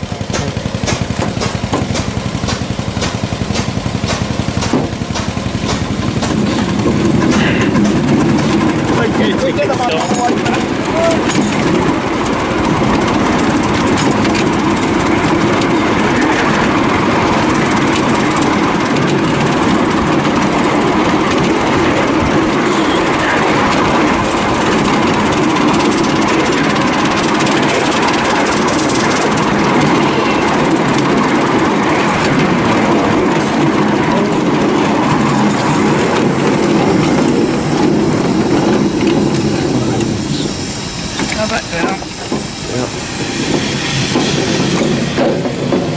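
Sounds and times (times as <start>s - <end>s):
miniature steam locomotive running: 0.0s - 45.9s
wheels clattering on rails: 0.0s - 45.9s.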